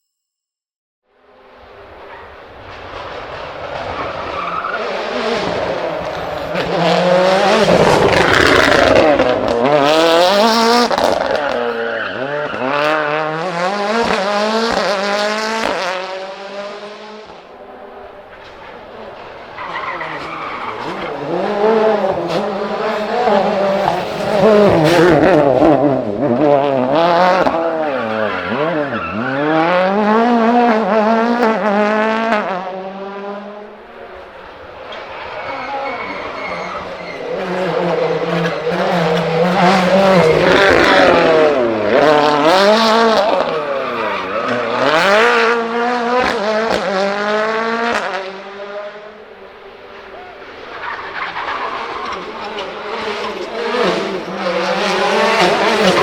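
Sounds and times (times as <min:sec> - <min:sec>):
rally car engines revving: 0:01.3 - 0:56.0
squealing tyres: 0:01.8 - 0:15.7, 0:17.5 - 0:31.6, 0:33.8 - 0:45.6, 0:49.6 - 0:56.0.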